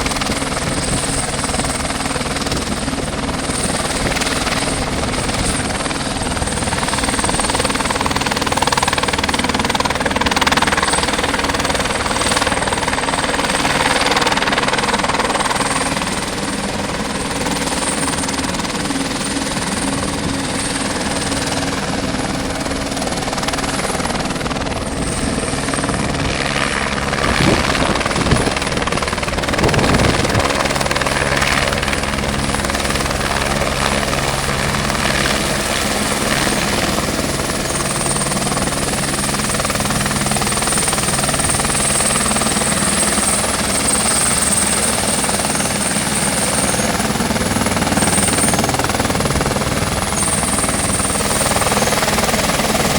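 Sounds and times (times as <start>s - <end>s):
helicopter rotor beat: 0.0s - 52.9s.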